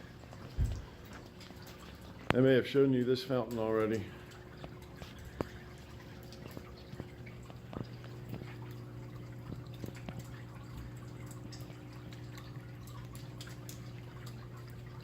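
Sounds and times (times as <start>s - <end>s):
fountain water dripping: 0.0s - 15.0s
steady low hum: 0.0s - 15.0s.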